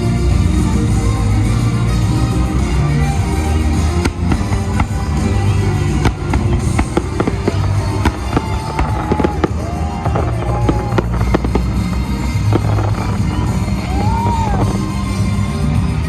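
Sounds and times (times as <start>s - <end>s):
fireworks bangs and crackles: 0.0s - 16.0s
fireworks whistling: 0.0s - 16.0s
loud music with heavy bass: 0.0s - 16.0s.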